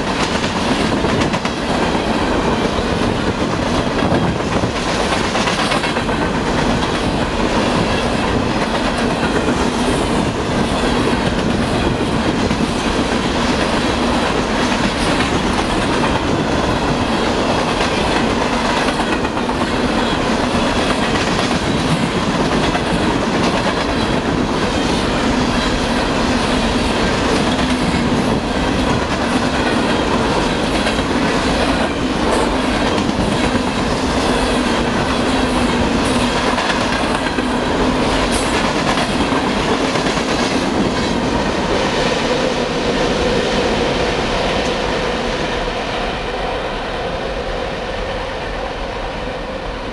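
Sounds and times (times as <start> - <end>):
freight train passing: 0.0 - 49.9.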